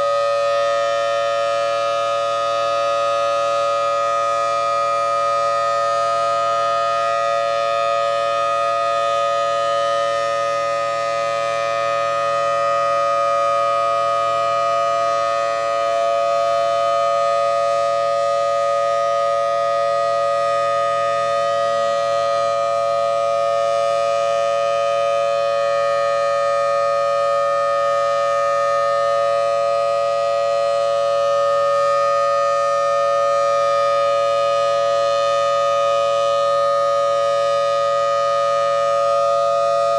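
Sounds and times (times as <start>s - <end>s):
civil defense siren wailing: 0.0s - 39.9s.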